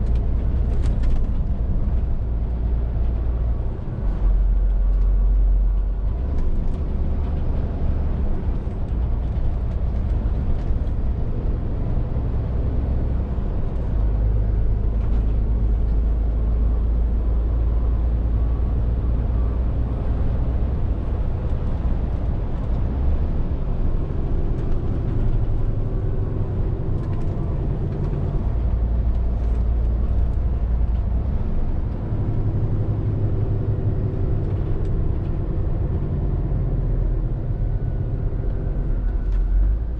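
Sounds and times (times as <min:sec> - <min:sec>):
diesel lorry engine running: 0:00.0 - 0:39.9
tyre and road noise: 0:00.0 - 0:39.9.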